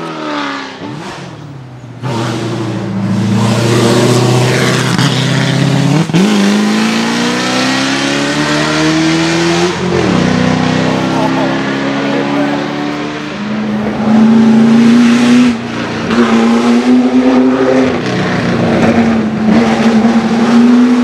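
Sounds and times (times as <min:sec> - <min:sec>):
car engine accelerating hard: 0:00.0 - 0:21.0
fainter engine: 0:00.0 - 0:21.0.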